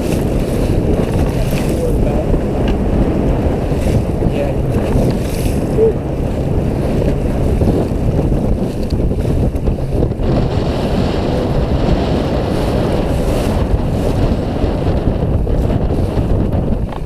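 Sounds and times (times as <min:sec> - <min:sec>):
boat motor humming: 0:00.0 - 0:17.0
wind buffeting microphone: 0:00.0 - 0:17.0.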